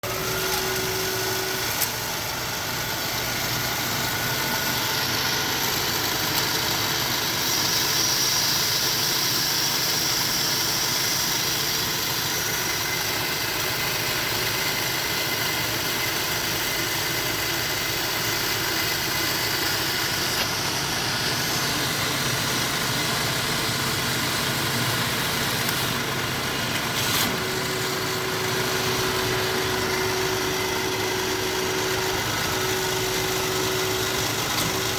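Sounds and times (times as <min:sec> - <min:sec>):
band saw humming: 0:00.0 - 0:34.9.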